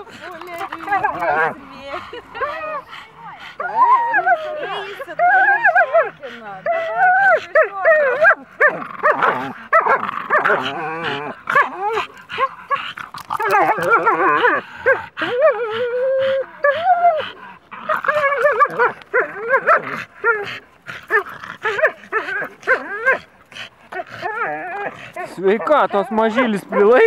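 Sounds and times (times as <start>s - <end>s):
dogs play growling and whining: 0.0s - 27.0s.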